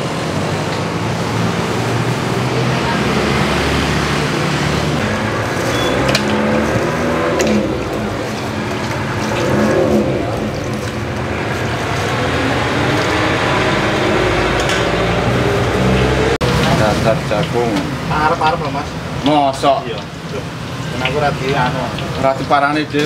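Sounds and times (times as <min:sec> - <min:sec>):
motorbike engines passing: 0:00.0 - 0:23.0.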